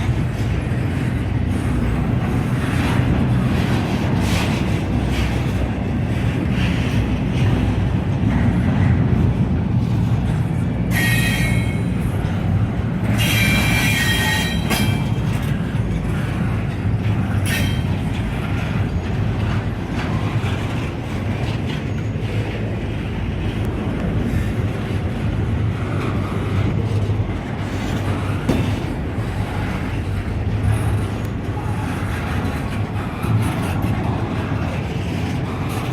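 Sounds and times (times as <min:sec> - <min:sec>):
train wheel flanges squealing: 0:00.0 - 0:35.9.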